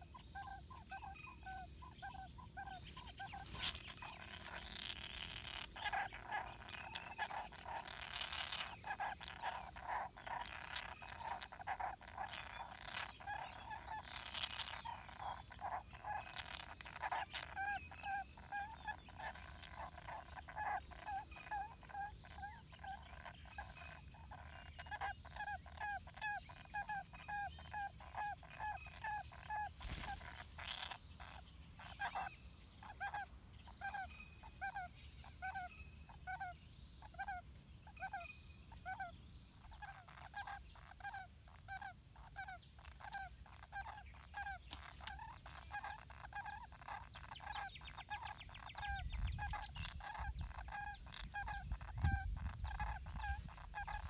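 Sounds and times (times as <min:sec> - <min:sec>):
birds calling low repeated notes: 0:00.0 - 0:54.0.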